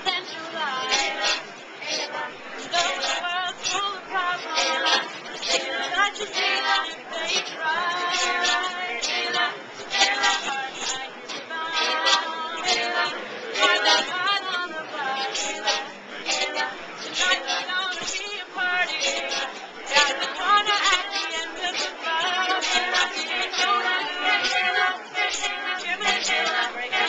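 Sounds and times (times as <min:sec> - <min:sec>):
group singing unaccompanied: 0:00.0 - 0:27.0.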